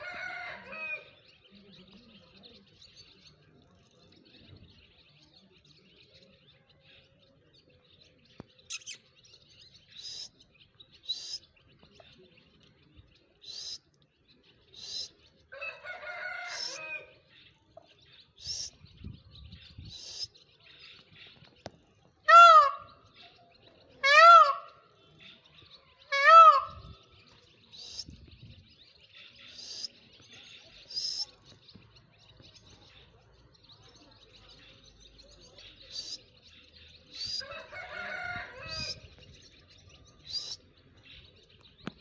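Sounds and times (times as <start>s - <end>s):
birds chirping: 0.0s - 42.0s
long layered bird call: 0.0s - 42.0s.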